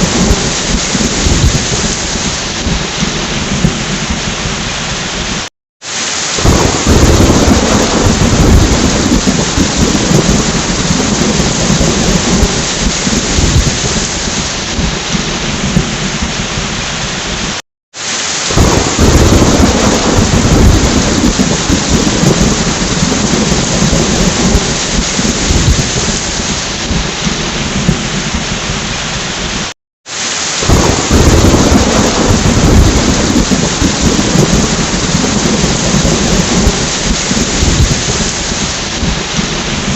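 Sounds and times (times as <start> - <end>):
rolling thunder: 0.0 - 5.5, 6.4 - 17.6, 18.5 - 29.7, 30.6 - 39.9
heavy rain: 0.0 - 39.9.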